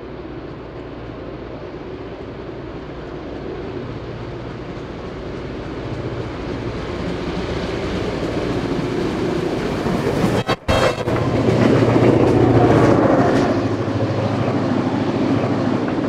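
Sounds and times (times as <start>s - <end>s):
steam locomotive approaching: 0.0s - 16.0s.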